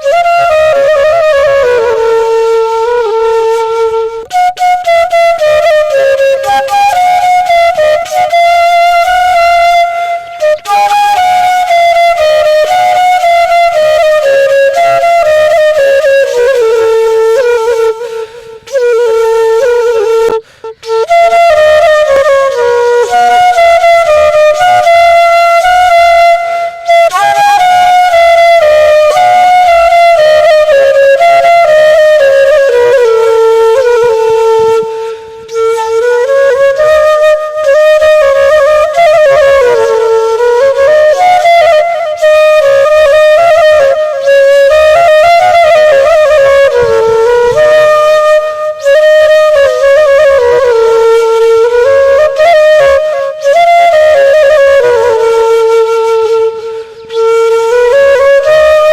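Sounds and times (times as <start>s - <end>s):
solo melody of held notes: 0.0s - 58.9s.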